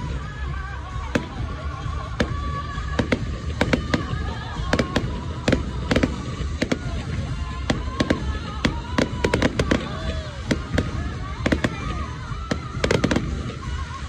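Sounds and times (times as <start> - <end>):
fireworks cracks and bangs: 0.0 - 14.0.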